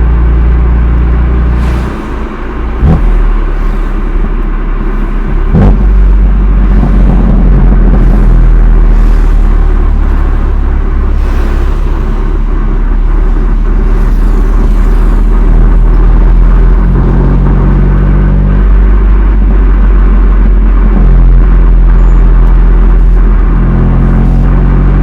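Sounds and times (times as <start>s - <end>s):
car exhaust droning: 0.0s - 25.0s.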